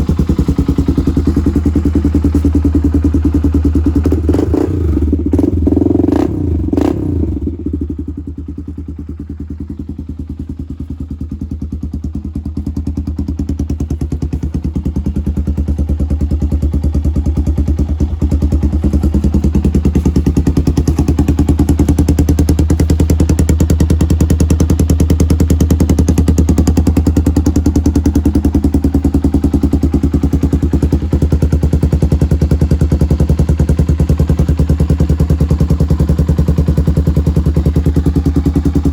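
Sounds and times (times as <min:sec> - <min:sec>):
single-cylinder engine idling: 0:00.0 - 0:38.9.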